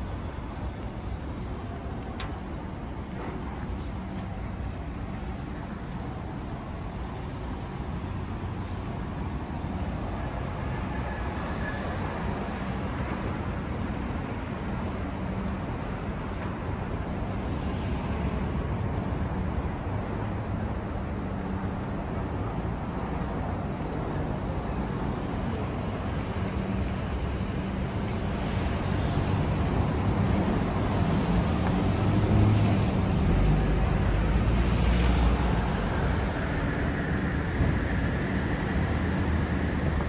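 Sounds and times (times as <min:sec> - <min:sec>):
rumble of street traffic: 0:00.0 - 0:40.0.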